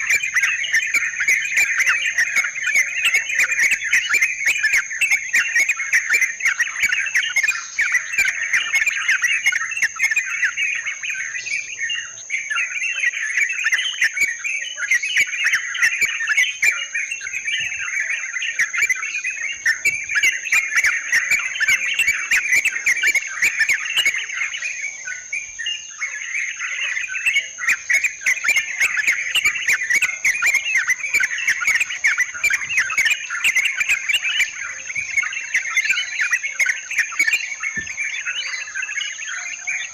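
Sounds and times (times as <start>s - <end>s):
birds chattering and calling: 0.0s - 39.9s.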